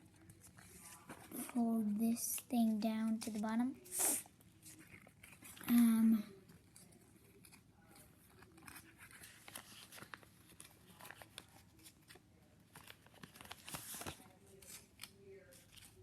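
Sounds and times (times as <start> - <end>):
paper being folded and creased: 0.1 - 5.9, 6.6 - 16.0.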